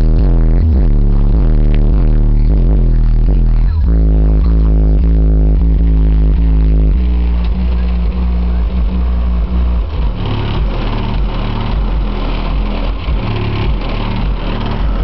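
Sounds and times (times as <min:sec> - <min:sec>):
rap music with deep bass: 0:00.0 - 0:15.0.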